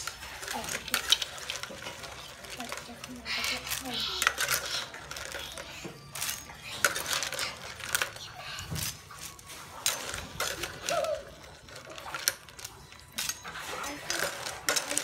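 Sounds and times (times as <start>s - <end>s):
crab shells clattering: 0.0s - 15.0s.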